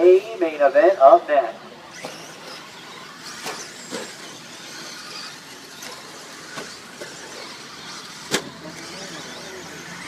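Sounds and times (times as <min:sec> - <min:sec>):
rc truck motors and tyres hissing: 0:01.7 - 0:10.0.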